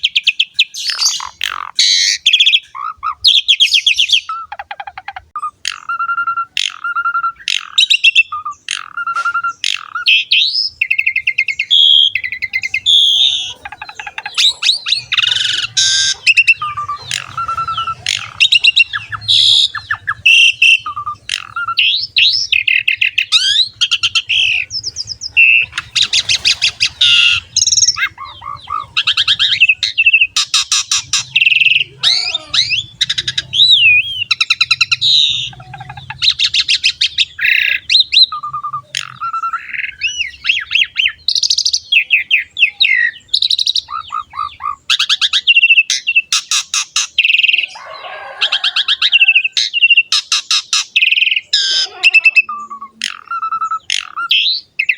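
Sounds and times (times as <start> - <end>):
starling singing: 0.0 - 54.9.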